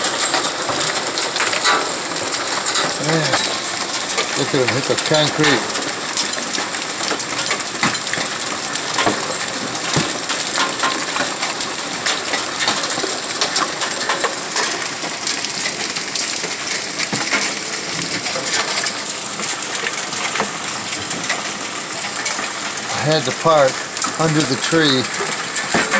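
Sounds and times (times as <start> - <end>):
hailstones hitting concrete: 0.0 - 25.9
steady hiss of rain: 0.0 - 25.9.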